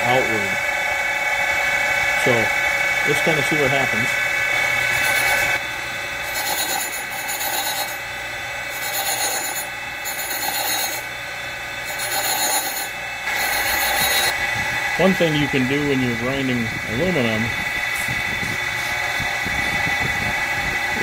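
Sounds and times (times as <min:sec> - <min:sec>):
grinding wheel hissing on metal: 0:00.0 - 0:21.0
machine humming: 0:00.0 - 0:21.0.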